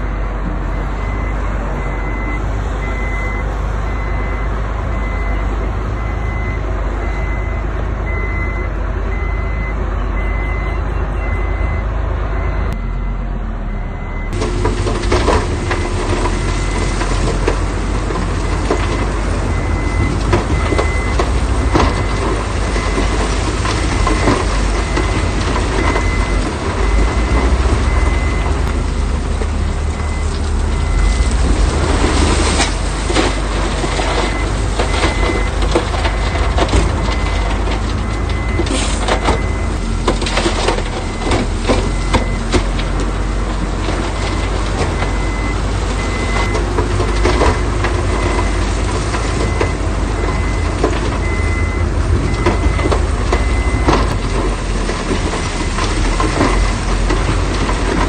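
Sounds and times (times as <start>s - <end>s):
reversing alarm beeping: 0.0s - 28.8s, 29.8s - 42.6s, 45.0s - 48.6s, 49.3s - 56.7s
heavy machinery engine rumble: 0.0s - 58.0s.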